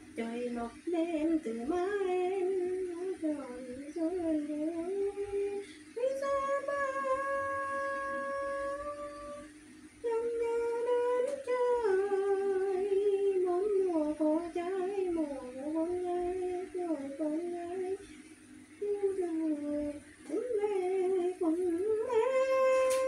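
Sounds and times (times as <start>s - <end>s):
woman humming a slow tune: 0.2s - 18.0s, 18.8s - 23.0s.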